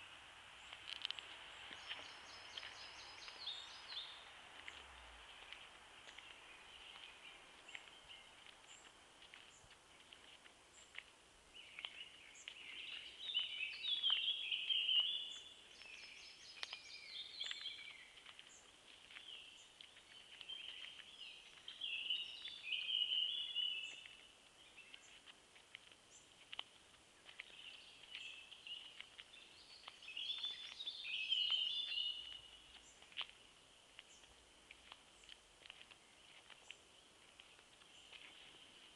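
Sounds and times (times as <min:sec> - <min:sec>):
faint background bird chirps: 0:00.0 - 0:38.9
songbirds chirping: 0:00.0 - 0:38.9.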